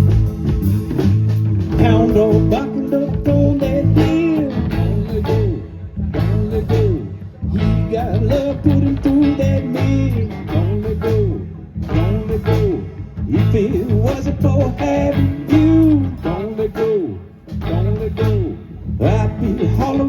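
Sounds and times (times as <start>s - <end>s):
blues guitar with bent notes: 0.0s - 20.0s
pulsing bass: 0.0s - 20.0s
steady drum beat: 0.0s - 20.0s.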